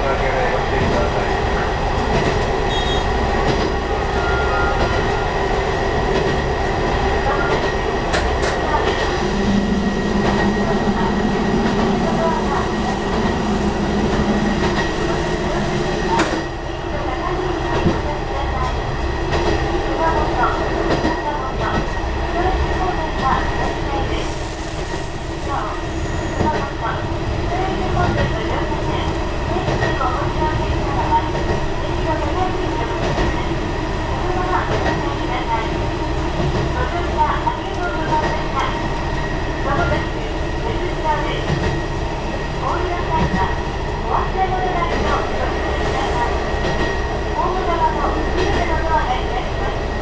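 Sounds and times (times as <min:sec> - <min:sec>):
railcar engine and wheels rumbling: 0:00.0 - 0:50.0.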